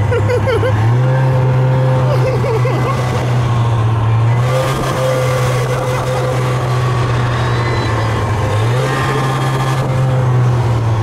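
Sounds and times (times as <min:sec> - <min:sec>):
snowmobile engine droning: 0:00.0 - 0:11.0.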